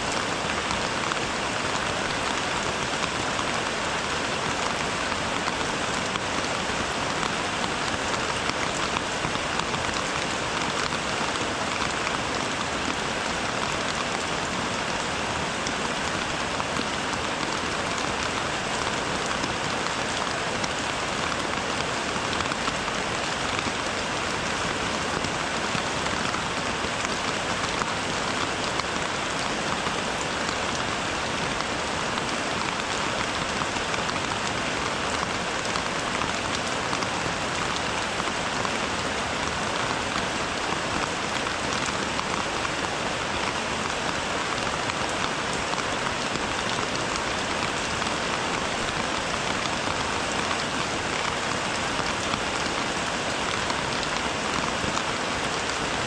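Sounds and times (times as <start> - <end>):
steady rain with ticking drops: 0.0 - 56.0.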